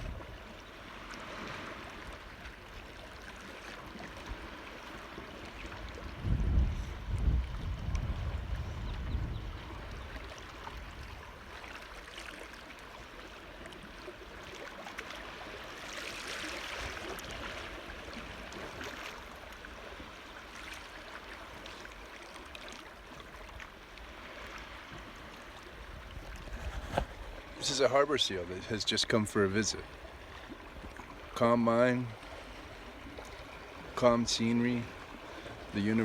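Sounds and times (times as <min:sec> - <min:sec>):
rush of water: 0:00.0 - 0:36.0
water lapping and trickling: 0:00.0 - 0:36.0.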